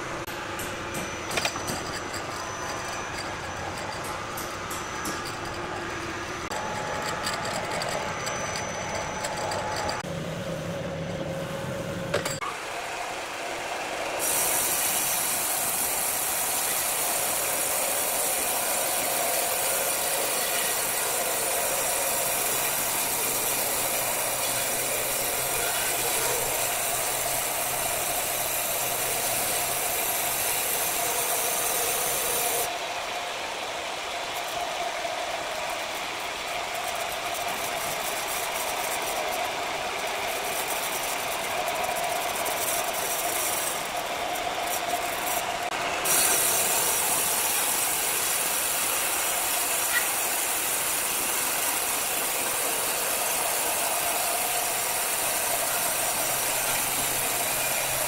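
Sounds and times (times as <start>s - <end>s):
band saw cutting wood: 0.0s - 10.1s, 13.6s - 32.8s, 34.2s - 58.0s.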